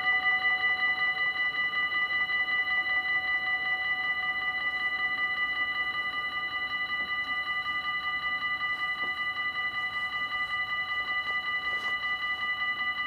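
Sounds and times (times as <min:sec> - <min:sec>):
level crossing bell ringing: 0:00.0 - 0:13.0.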